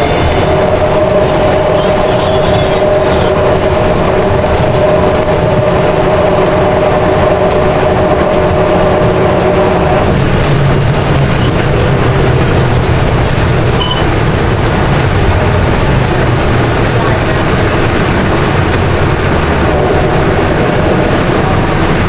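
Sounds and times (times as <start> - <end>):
bus diesel engine running: 0.0 - 22.0
faint drivetrain whir: 0.0 - 22.0
road and cabin rattle: 0.0 - 22.0.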